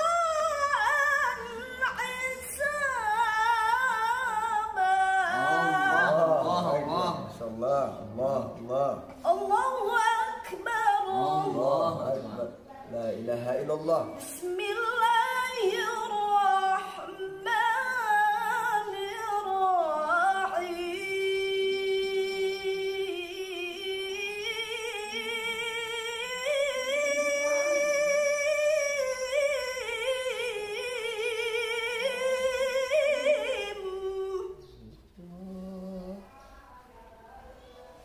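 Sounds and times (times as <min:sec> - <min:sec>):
woman chanting recitation: 0:00.0 - 0:13.6, 0:14.2 - 0:38.0.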